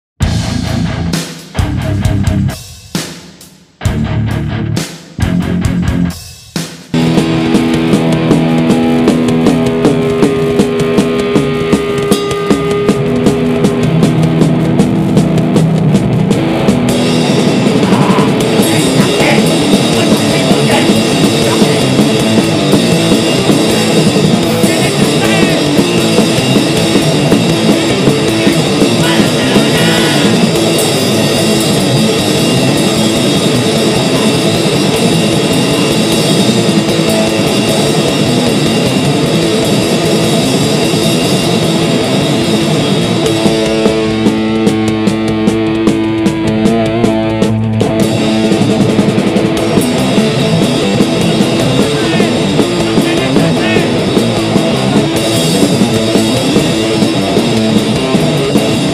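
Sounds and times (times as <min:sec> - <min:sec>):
distorted electric guitars: 0:00.2 - 0:58.9
rapid pounding drums: 0:00.2 - 0:58.9.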